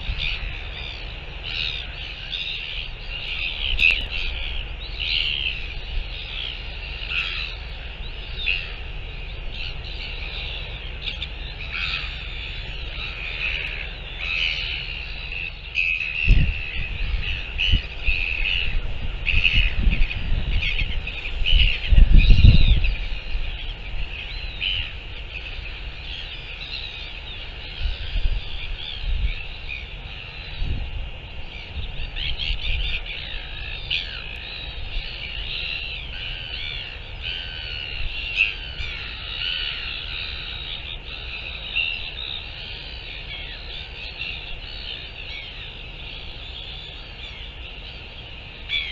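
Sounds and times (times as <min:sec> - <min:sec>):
wind buffeting microphone: 0:00.0 - 0:40.2
birds chirping: 0:00.0 - 0:48.9.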